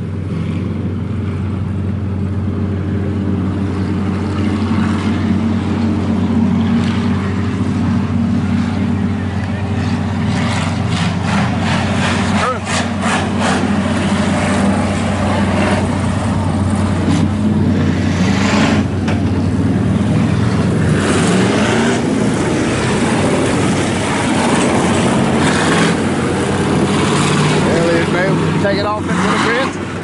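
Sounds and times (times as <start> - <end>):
race car engines droning: 0.0 - 30.0.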